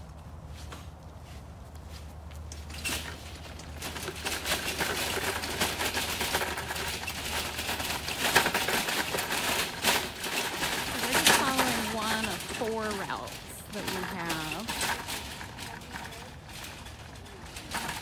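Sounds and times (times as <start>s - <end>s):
wagon with buckets rattling: 0.0s - 18.0s.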